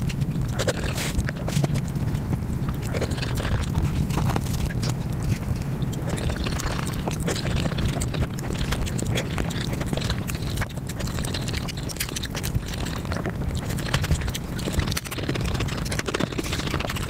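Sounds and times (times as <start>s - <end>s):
sped-up chewing clicks: 0.0s - 17.0s.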